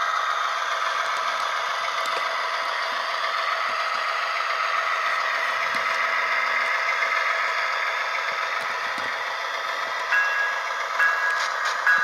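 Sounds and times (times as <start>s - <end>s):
diesel engine sound from small speaker: 0.0s - 12.0s.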